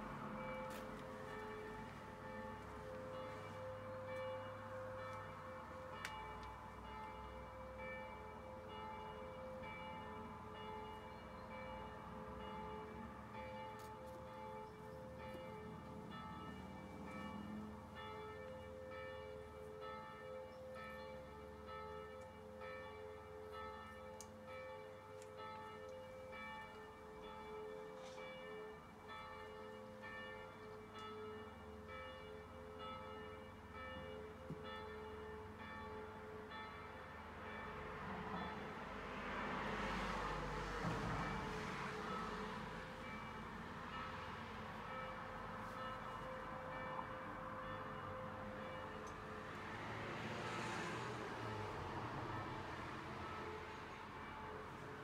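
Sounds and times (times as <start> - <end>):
faint church bells ringing: 0.0 - 55.0.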